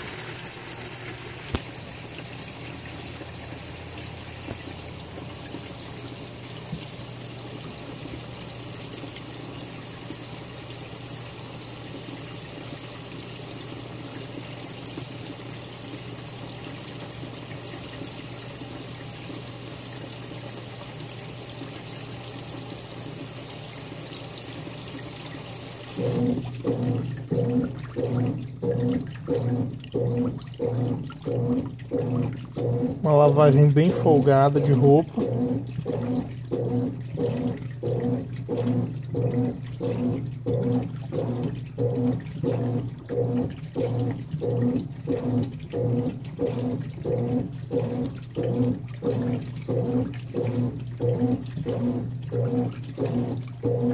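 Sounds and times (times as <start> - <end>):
washing machine agitator humming: 0.0 - 53.9
water rushing into washing machine: 0.0 - 53.9.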